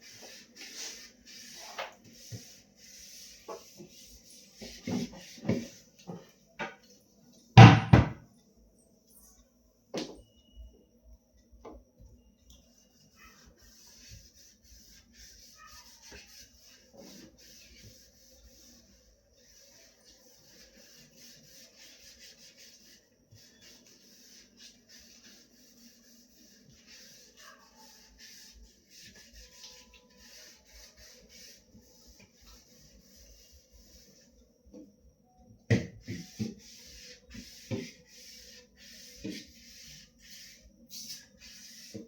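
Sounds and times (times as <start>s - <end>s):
hand scrubbing fridge surfaces: 0.0s - 6.4s, 12.7s - 34.3s, 35.7s - 42.0s.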